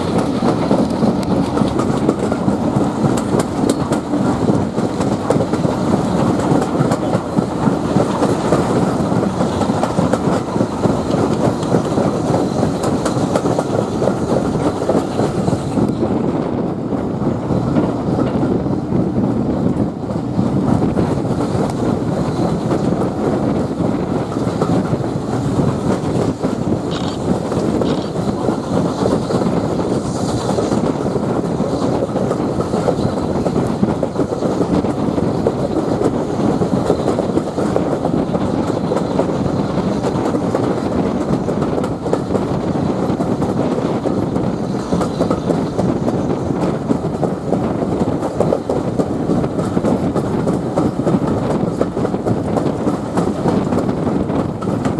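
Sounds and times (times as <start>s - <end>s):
rumble of wheels on rails: 0.0s - 54.9s.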